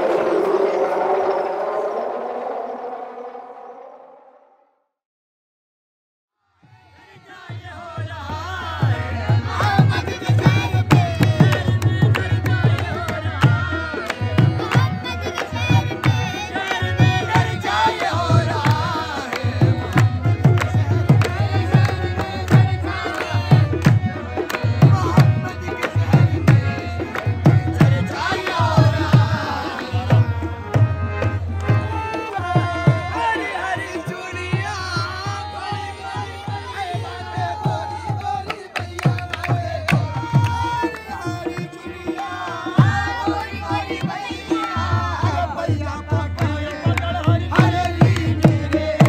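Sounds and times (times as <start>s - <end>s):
voices singing: 6.8s - 49.0s
harmonium playing chords: 8.5s - 49.0s.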